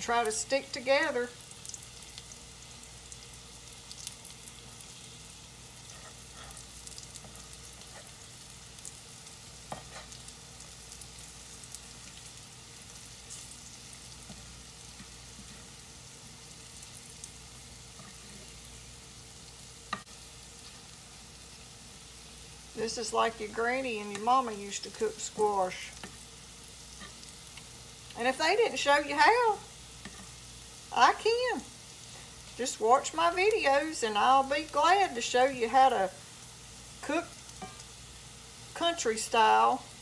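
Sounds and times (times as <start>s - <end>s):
squash slices sizzling in skillet: 0.0s - 40.0s.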